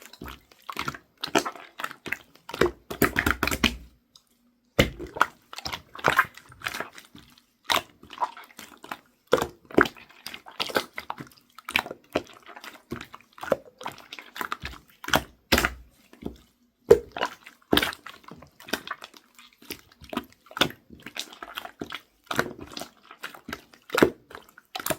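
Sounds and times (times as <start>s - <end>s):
slime squishing by hand: 0.0s - 24.9s.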